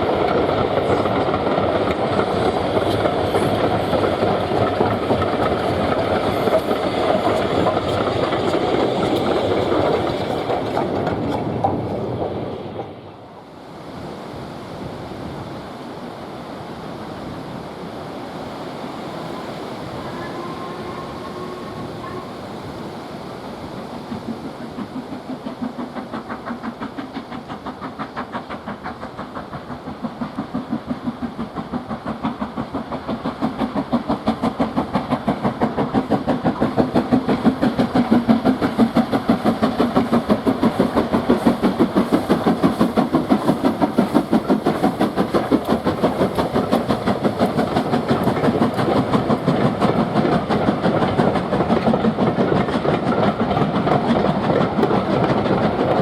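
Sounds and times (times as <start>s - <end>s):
steam locomotive exhaust beats: 0.0s - 13.3s, 19.3s - 56.0s.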